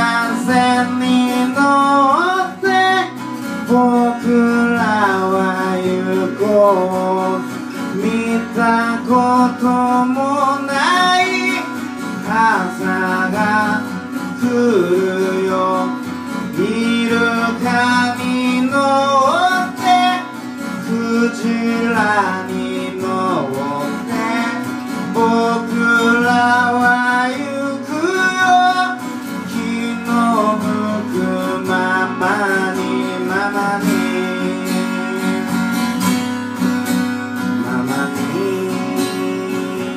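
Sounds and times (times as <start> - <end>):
person singing sliding melody: 0.0 - 36.3, 37.4 - 39.9
strummed acoustic guitar: 0.0 - 39.9.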